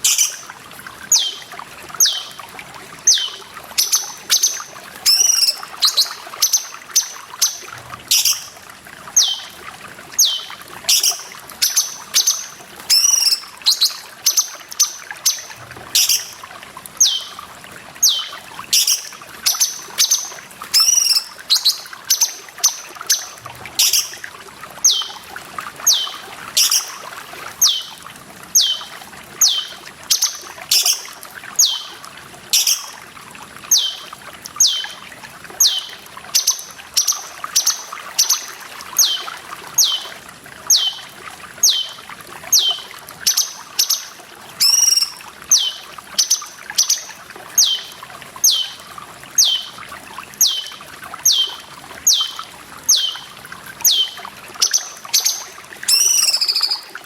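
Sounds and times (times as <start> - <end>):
songbird calling: 0.0 - 0.5, 1.1 - 2.4, 3.1 - 8.6, 9.2 - 9.6, 10.2 - 16.4, 17.0 - 17.4, 18.0 - 24.2, 24.8 - 25.2, 25.8 - 27.0, 27.6 - 28.0, 28.6 - 33.0, 33.7 - 35.0, 35.6 - 48.8, 49.4 - 49.8, 50.4 - 57.0
water trickling and pouring: 0.0 - 57.0.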